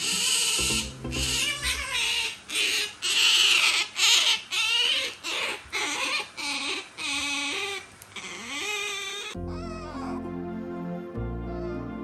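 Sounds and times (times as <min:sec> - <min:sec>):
otter squealing: 0:00.0 - 0:10.2.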